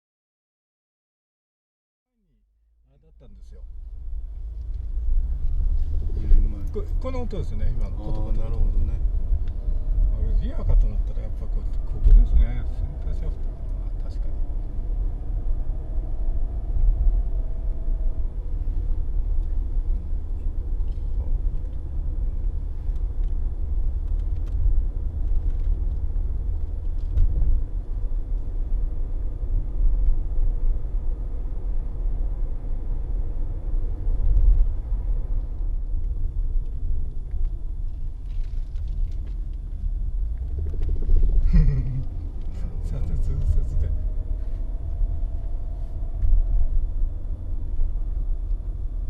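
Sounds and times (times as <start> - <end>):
car interior rumble while driving: 2.8 - 49.0.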